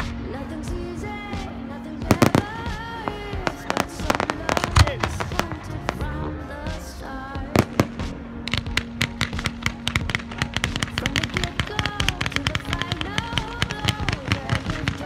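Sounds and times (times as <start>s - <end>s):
fireworks crackling: 0.0s - 15.0s
fireworks bangs: 1.4s - 6.8s, 7.4s - 15.0s.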